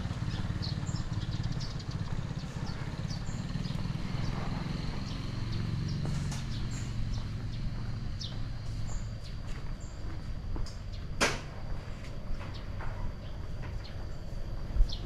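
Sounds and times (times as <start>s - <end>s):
birds chirping: 0.0s - 15.0s
small motorbike engine running: 0.0s - 15.0s.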